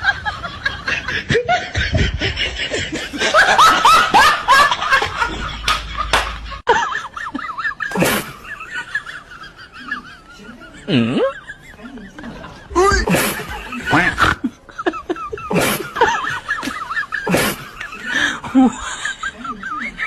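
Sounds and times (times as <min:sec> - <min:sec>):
people giggling and laughing: 0:00.0 - 0:20.0.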